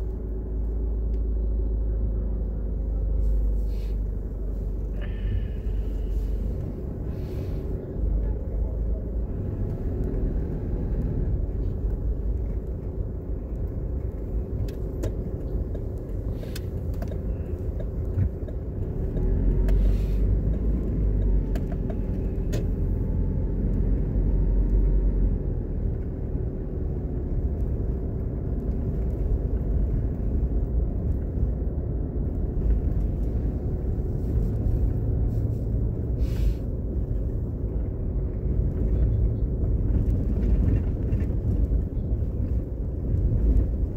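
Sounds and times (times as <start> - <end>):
car driving rumble from cabin: 0.0 - 43.9.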